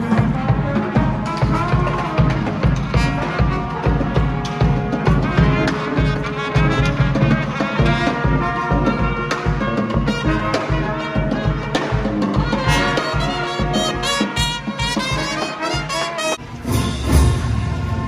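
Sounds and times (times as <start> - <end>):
heavy drum beat: 0.0 - 18.0
trumpets and trombones: 0.0 - 18.0.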